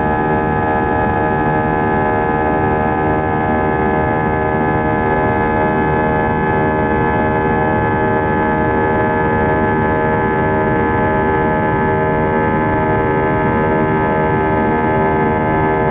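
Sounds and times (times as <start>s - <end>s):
jet engines drone inside cabin: 0.0s - 15.9s.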